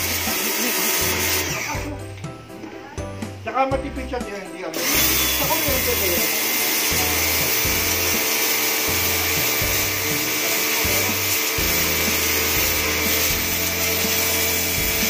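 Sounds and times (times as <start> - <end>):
water jet spraying concrete: 0.0 - 1.9, 4.7 - 15.0
pressure washer motor whining: 0.0 - 2.8, 4.3 - 15.0
background music: 0.0 - 15.0.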